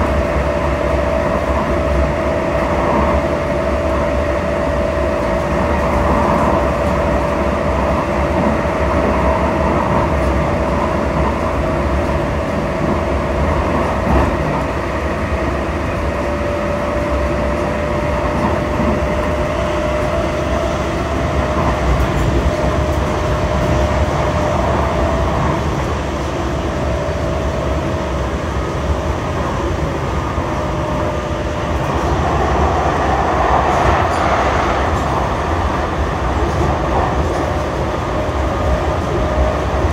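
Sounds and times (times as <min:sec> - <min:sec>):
light rail car rumble: 0:00.0 - 0:39.9
passing train rush: 0:00.0 - 0:39.9.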